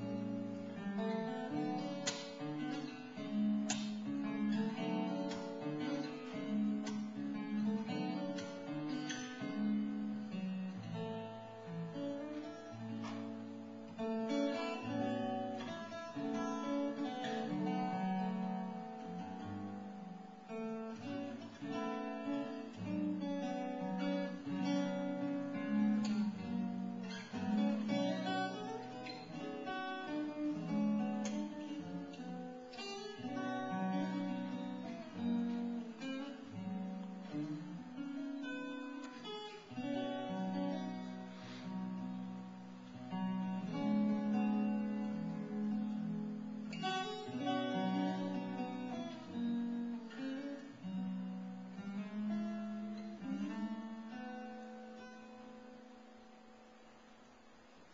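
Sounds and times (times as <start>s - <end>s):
fingerpicked acoustic guitar: 0.0s - 57.9s.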